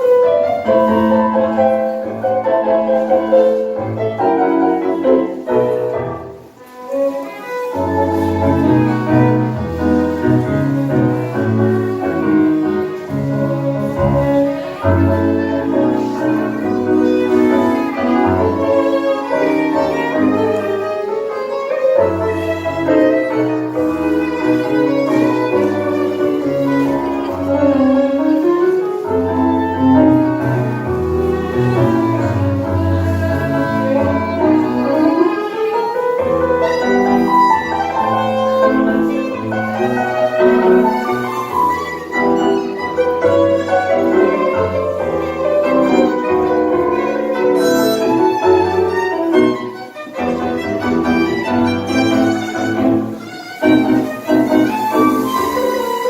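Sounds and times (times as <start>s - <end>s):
piano: 0.0s - 56.0s
violin melody: 0.0s - 56.0s
walking double bass: 0.0s - 56.0s.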